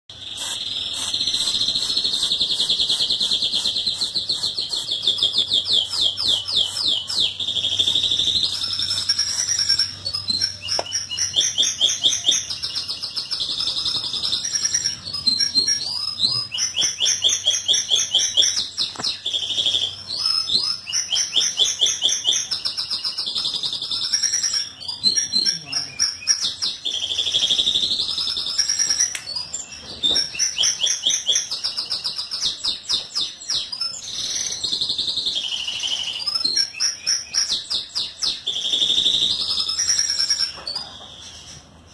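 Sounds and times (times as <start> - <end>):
songbirds trilling and warbling: 0.1 - 41.9.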